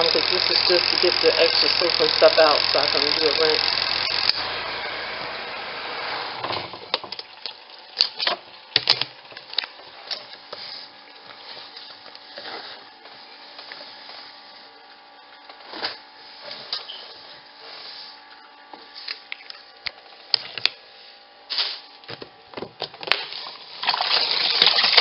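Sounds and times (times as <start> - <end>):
spin-dryer motor hum: 0.0 - 25.0.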